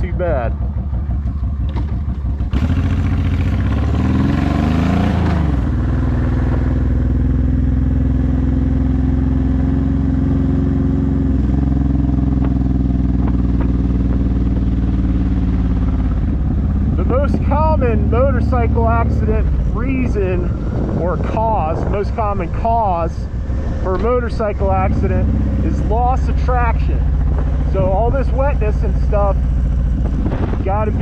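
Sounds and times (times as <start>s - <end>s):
v-twin motorcycle engine running: 0.0s - 31.0s.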